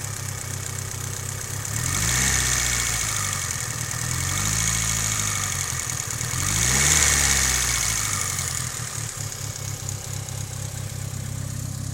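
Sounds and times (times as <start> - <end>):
car engine idling with lifter tick: 0.0 - 11.9
engine revving: 1.6 - 11.9.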